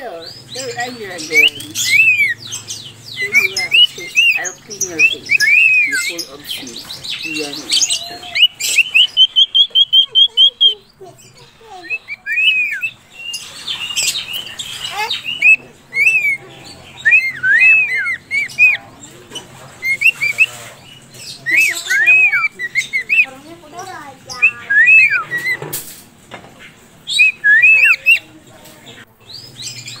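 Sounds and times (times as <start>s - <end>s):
cockatiels chirping: 0.0s - 30.0s.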